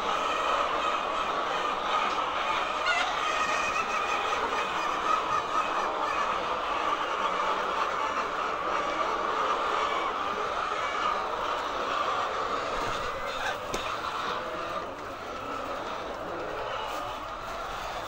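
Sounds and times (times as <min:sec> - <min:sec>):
flock of hens clucking: 0:00.0 - 0:18.0.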